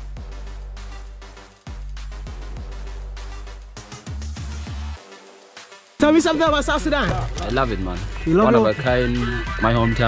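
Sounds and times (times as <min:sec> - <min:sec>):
music with deep bass: 0:00.0 - 0:10.0.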